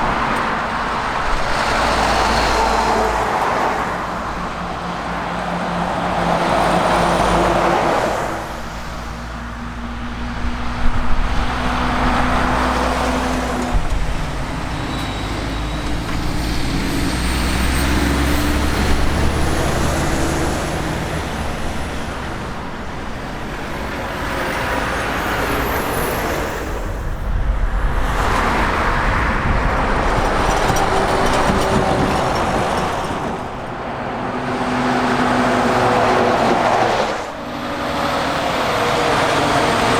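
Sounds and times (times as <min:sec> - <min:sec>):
heavy diesel trucks driving past: 0:00.0 - 0:39.9.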